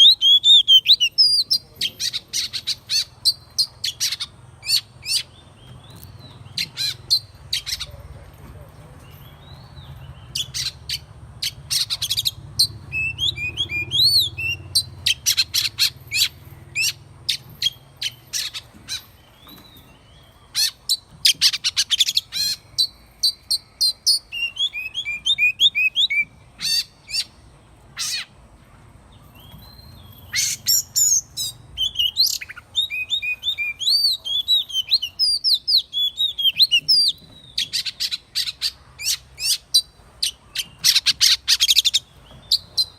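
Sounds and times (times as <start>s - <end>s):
magpie-robin singing: 0.0s - 8.2s, 9.0s - 28.4s, 29.1s - 42.9s.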